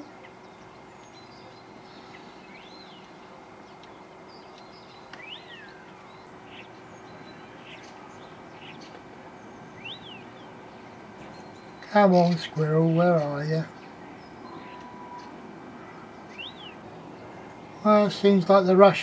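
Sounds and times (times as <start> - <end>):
low background hum: 0.0 - 19.0
small birds chirping: 0.0 - 19.0.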